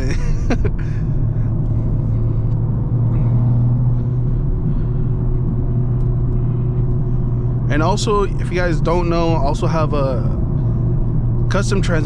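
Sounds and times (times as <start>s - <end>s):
low engine drone in cabin: 0.0s - 12.0s
road noise: 0.0s - 12.0s.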